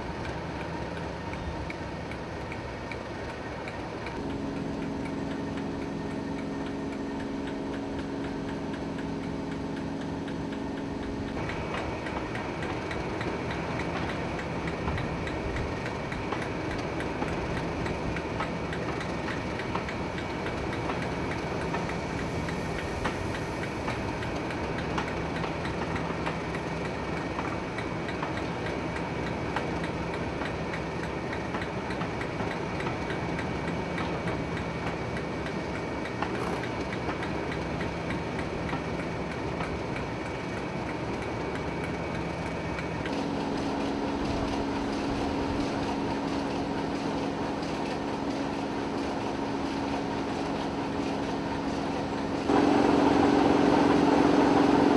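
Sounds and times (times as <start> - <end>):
diesel locomotive engine idling: 0.0 - 54.9
diesel locomotives idling: 0.0 - 54.9
railway coaches rolling past: 0.0 - 54.9.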